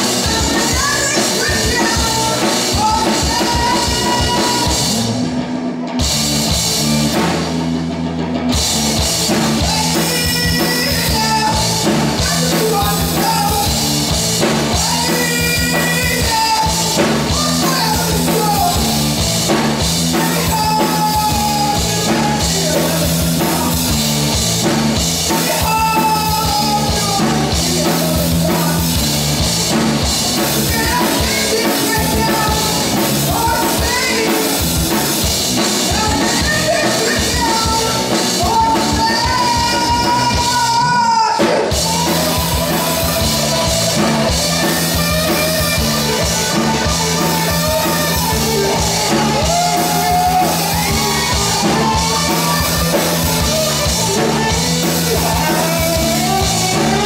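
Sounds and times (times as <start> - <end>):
live rock band: 0.0 - 57.0.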